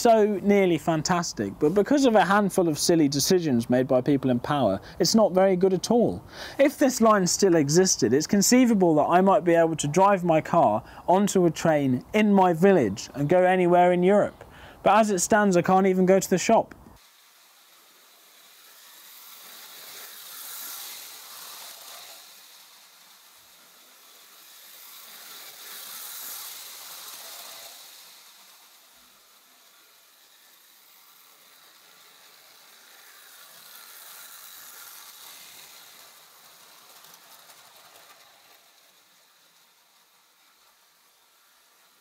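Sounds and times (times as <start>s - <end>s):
toy train wheels rattling on rails: 0.0s - 42.0s.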